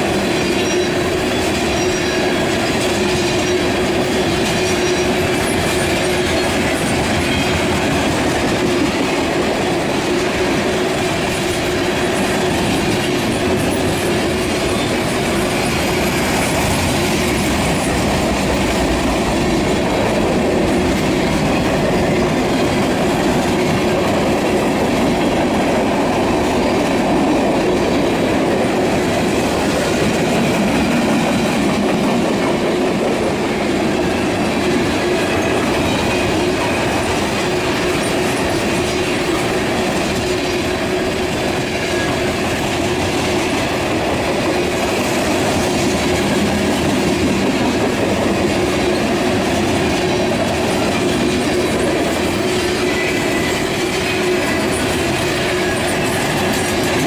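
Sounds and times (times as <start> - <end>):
train wheels clattering on track: 0.0 - 57.0.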